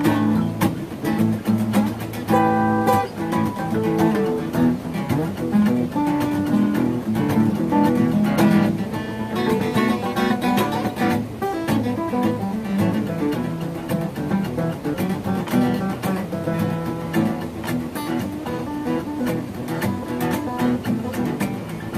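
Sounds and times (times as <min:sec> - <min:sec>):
acoustic guitar blues: 0:00.0 - 0:21.9.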